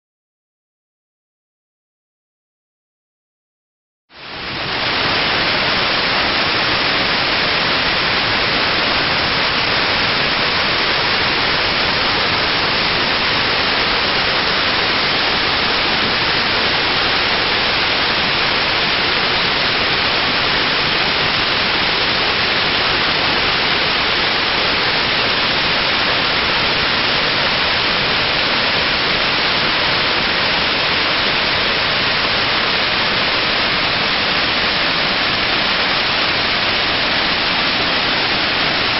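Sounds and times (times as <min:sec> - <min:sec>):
waterfall rushing: 0:04.2 - 0:38.9.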